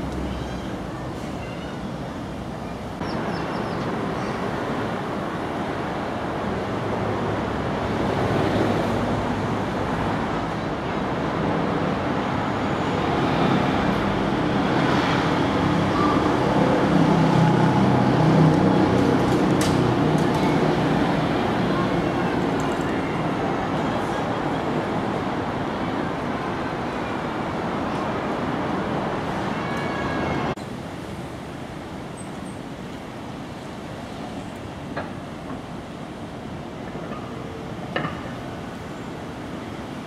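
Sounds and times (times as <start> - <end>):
busy road traffic: 0.0 - 40.0.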